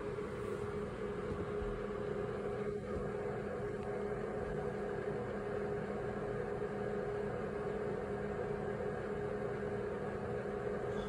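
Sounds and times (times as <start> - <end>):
machine hum with held tones: 0.0 - 11.0.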